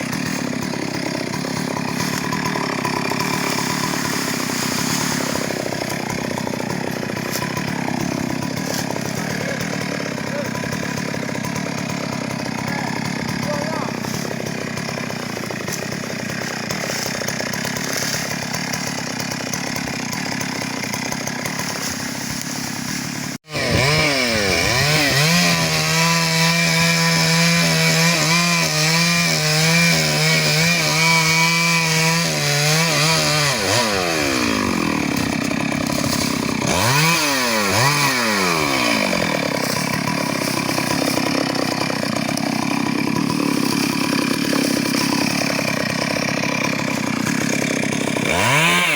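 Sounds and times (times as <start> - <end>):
chainsaw running and revving: 0.0 - 48.9.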